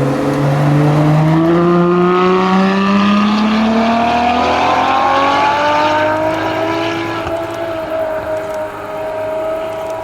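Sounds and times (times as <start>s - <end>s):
engine at high revs: 0.0s - 10.0s.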